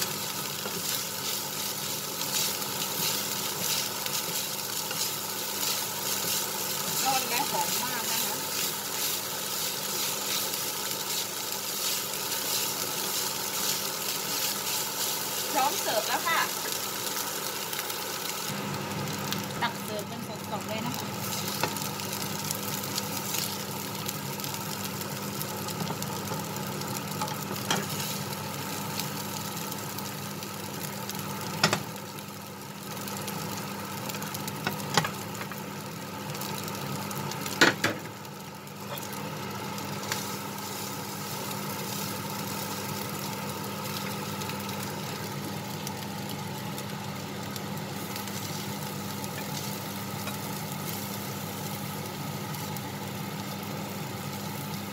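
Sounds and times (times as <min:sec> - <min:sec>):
light sizzle: 0:00.0 - 0:54.9.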